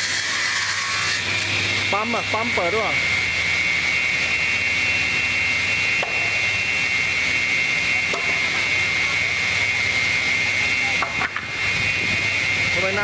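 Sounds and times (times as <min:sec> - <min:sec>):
rip saw machine whining: 0:00.0 - 0:13.0.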